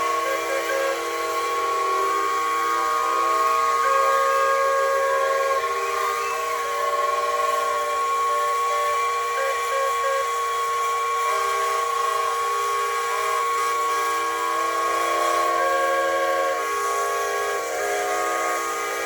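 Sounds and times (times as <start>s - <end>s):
whistles blowing at steady pitches: 0.0s - 19.0s.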